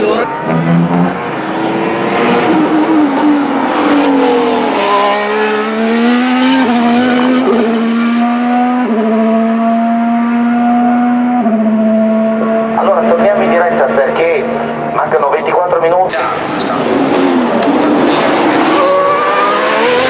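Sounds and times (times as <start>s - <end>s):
racing car engine at high revs: 0.0s - 20.0s.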